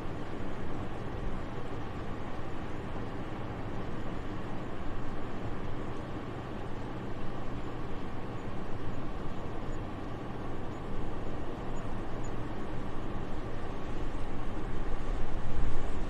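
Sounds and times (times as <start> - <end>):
soft wind with low rumble: 0.0 - 16.0.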